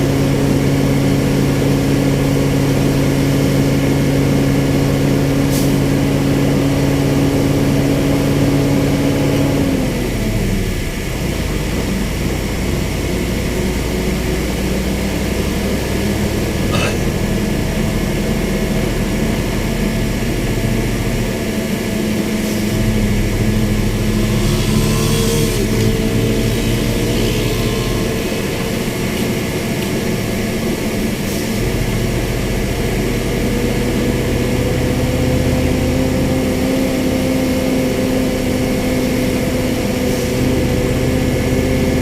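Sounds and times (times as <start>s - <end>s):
engine running: 0.0s - 42.0s.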